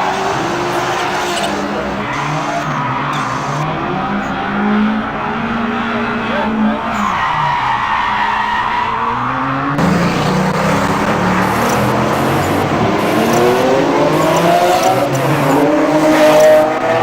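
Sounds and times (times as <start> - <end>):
car engine revving: 0.0 - 17.0
tyres skidding: 0.0 - 17.0.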